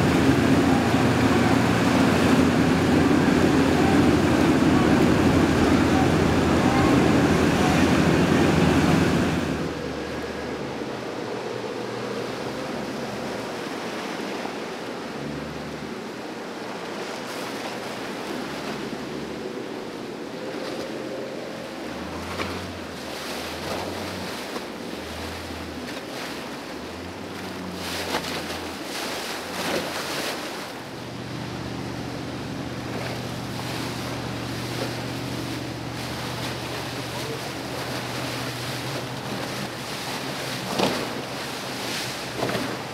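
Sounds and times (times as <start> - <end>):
boat engines humming: 0.0 - 42.9
churning water rushing and splashing: 0.0 - 42.9
low engine drone: 0.0 - 42.9.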